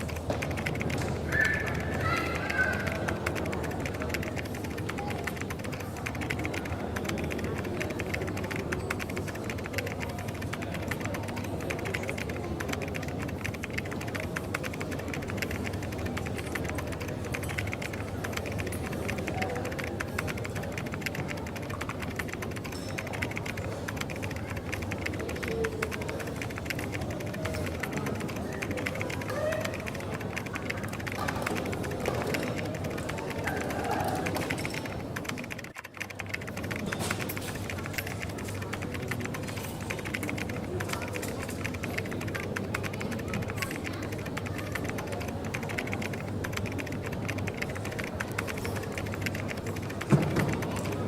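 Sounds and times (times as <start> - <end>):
faint murmur of voices: 0.0 - 51.0
keyboard typing: 0.0 - 51.0.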